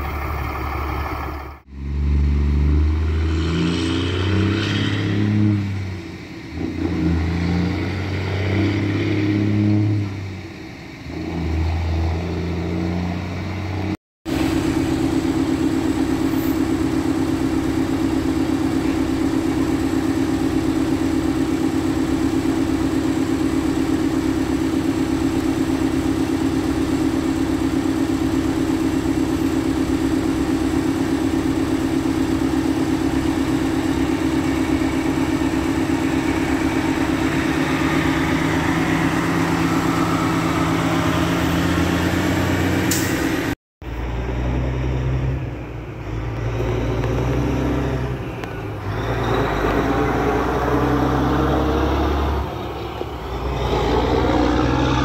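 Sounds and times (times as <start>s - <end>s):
diesel truck engine running: 0.0s - 55.0s
distant truck: 0.0s - 55.0s
trailer rolling: 0.0s - 55.0s.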